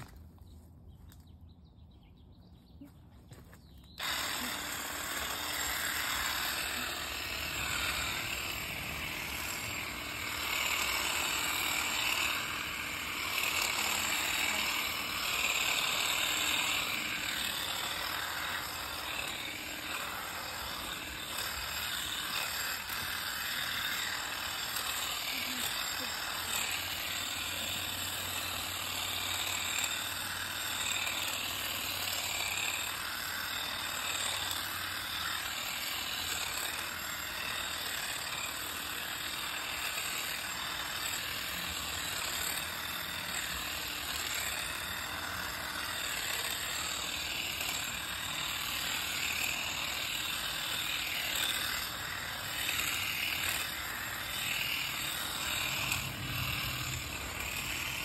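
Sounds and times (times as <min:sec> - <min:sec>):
hedge trimmer cutting shrub: 0:03.5 - 0:58.0.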